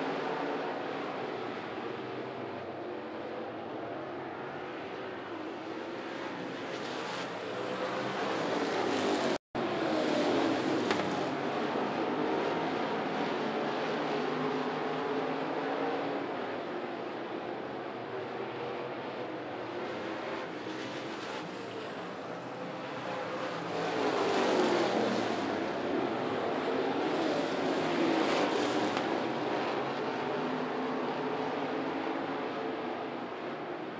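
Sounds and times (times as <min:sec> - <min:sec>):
race car engines roaring: 0:00.0 - 0:33.9.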